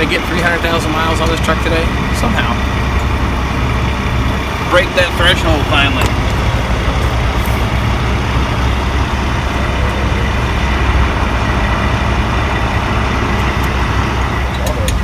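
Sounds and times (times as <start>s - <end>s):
motor vehicles rumbling: 0.0s - 15.0s.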